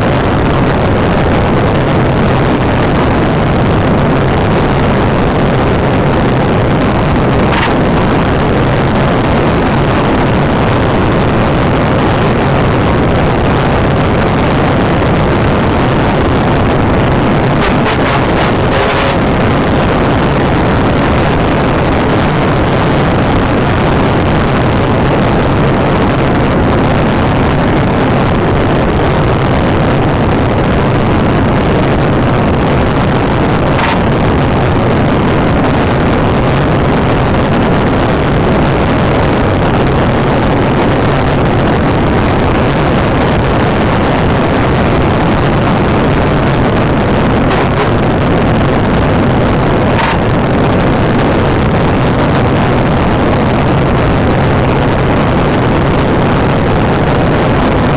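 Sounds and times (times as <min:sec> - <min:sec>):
car engine at speed: 0:00.0 - 0:57.9.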